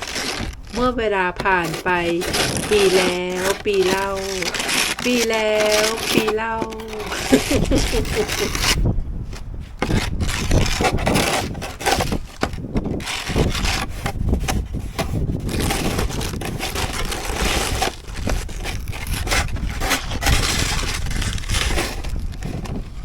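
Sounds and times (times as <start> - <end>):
snow shovel scraping snow: 0.0 - 8.9, 9.8 - 23.0.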